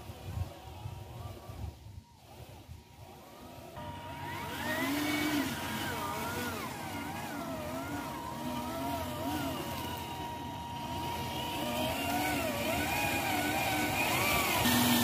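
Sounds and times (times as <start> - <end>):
model truck motor whining: 0.0 - 15.0.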